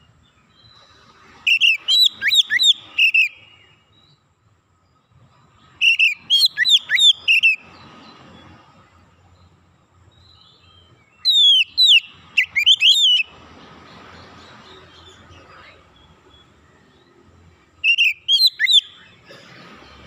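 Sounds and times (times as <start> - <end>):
bird whistling song: 0.0 - 4.3, 5.5 - 8.6, 10.1 - 20.0.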